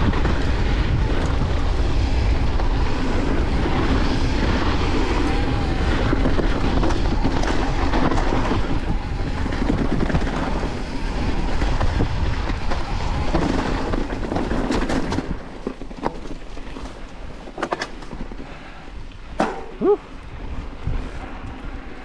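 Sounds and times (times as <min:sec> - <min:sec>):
bike rattles and clicks: 0:00.0 - 0:22.0
bike tyres rumbling over dirt: 0:00.0 - 0:22.0
wind buffeting microphone: 0:00.0 - 0:22.0.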